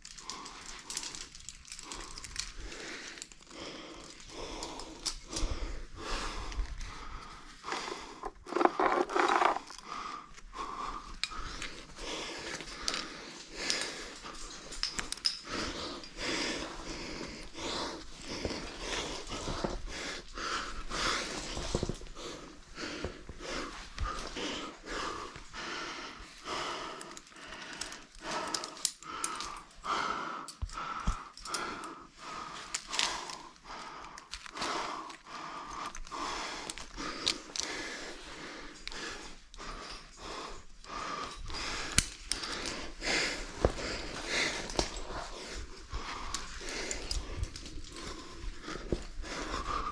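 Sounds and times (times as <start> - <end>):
person breathing hard and panting: 0.0 - 49.9.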